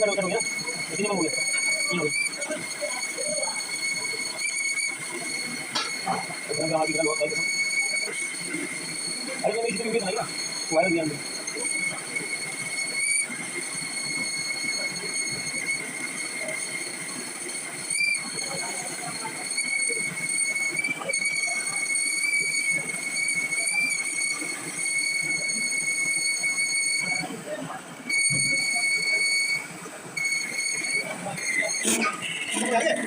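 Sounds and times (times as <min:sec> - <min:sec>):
lathe tool squealing on metal: 0:00.0 - 0:27.4, 0:28.1 - 0:33.0.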